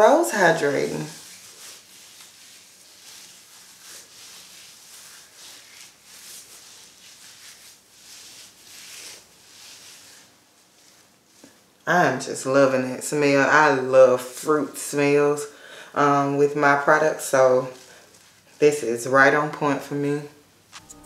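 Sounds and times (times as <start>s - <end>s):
soft rubbing and squishing of hair: 0.0s - 15.4s, 16.0s - 19.3s.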